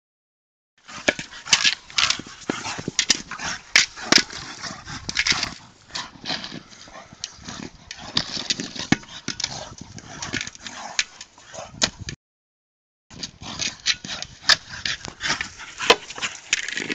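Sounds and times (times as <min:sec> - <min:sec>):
dogs playing rough: 0:00.8 - 0:11.8, 0:13.3 - 0:16.9.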